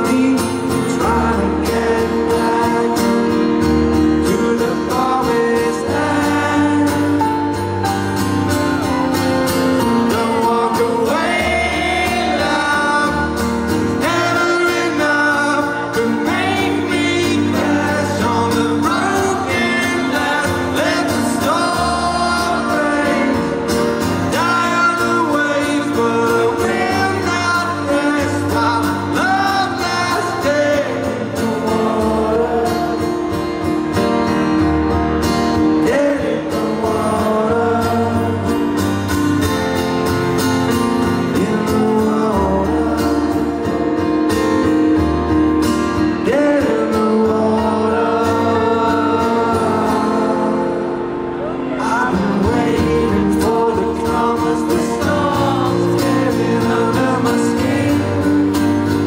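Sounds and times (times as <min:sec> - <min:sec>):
man singing live: 0:00.0 - 0:59.0
strummed acoustic guitar: 0:00.0 - 0:59.0.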